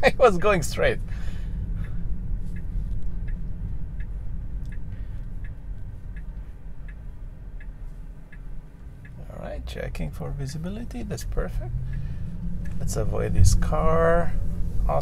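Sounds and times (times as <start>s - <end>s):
road and cabin rumble: 0.0s - 15.0s
turn signal ticking: 0.0s - 15.0s.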